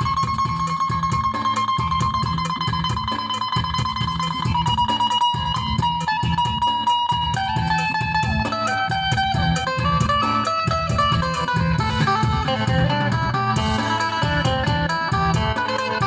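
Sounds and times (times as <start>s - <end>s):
bass and drum beat: 0.0s - 16.0s
plucked lute melody: 0.0s - 16.0s.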